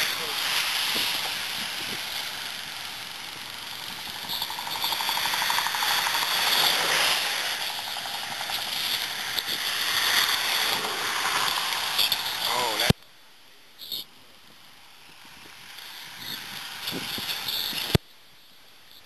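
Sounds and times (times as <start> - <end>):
wind on microphone: 0.0 - 12.5, 15.0 - 18.0
fishing reel clicking rapidly: 0.0 - 12.9, 15.6 - 18.0.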